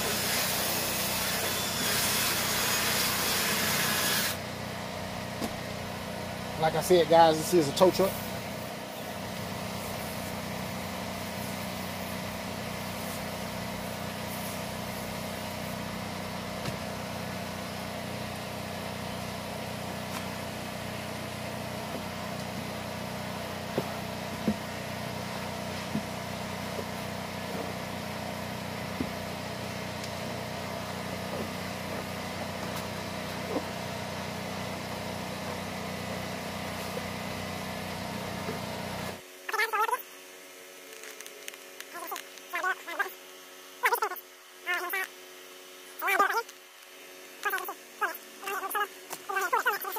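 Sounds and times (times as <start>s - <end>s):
motor humming: 7.5s - 49.9s.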